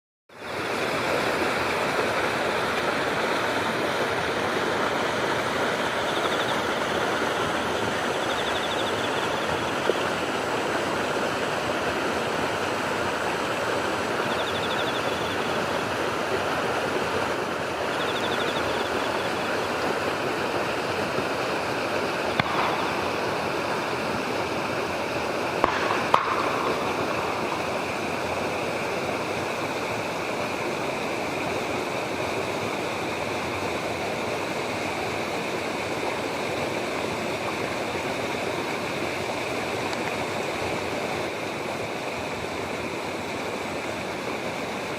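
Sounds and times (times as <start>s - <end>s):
running water: 0.3s - 44.9s.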